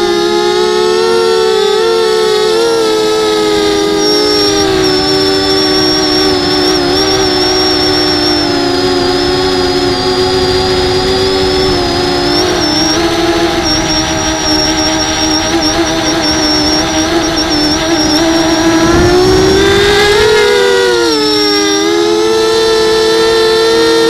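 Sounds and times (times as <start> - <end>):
quadcopter buzzing whine: 0.0 - 24.0
thin high whine: 0.0 - 24.0.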